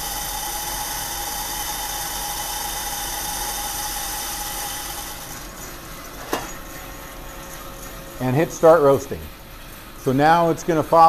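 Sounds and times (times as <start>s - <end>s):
high machine whine: 0.0s - 11.0s.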